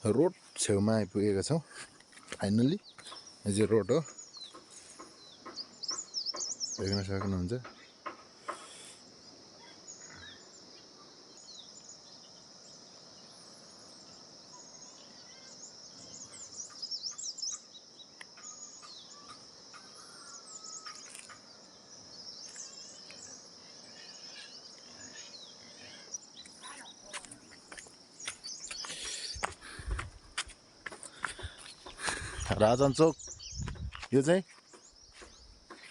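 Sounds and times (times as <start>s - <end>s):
insects droning: 0.0s - 35.9s
bird chirps: 1.5s - 30.1s, 30.9s - 35.9s.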